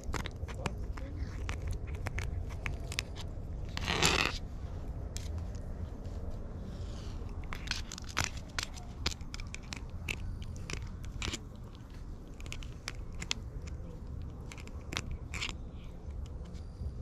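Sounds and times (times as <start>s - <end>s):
cat clawing and biting fabric: 0.0s - 17.0s
steady low rumble: 0.0s - 17.0s.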